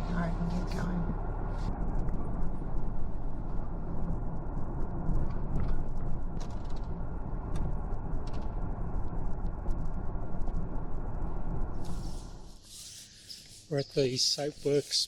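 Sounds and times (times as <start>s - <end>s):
road and engine rumble: 0.0s - 14.8s.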